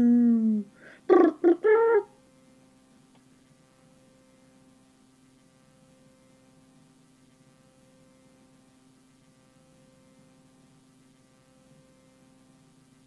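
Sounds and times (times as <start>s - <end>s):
faint tape hum and hiss: 0.0s - 13.0s.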